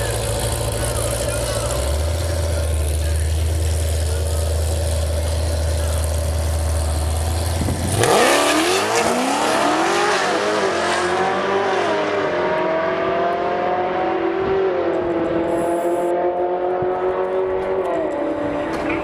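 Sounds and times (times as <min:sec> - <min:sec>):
drag racing car engine accelerating: 0:00.0 - 0:19.0.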